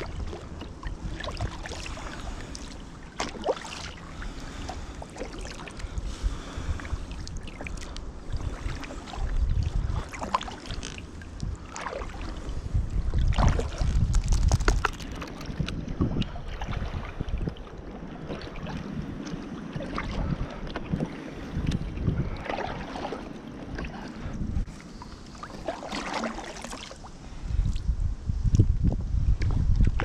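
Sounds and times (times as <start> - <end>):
paddle splashing in water: 0.0 - 27.1
wind rumble on microphone: 0.0 - 30.0.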